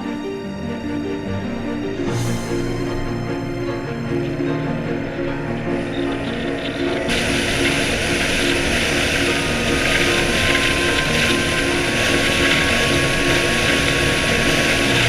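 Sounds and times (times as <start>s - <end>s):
wind and motion noise: 2.8s - 15.0s.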